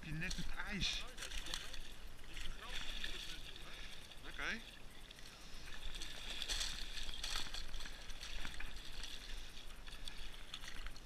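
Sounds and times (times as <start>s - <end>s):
fish thrashing and splashing: 0.0s - 11.0s.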